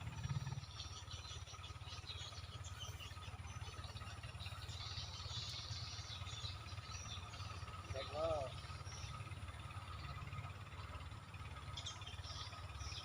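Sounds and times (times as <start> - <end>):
steady low rumble: 0.0 - 11.4
small birds chirping: 0.0 - 13.0.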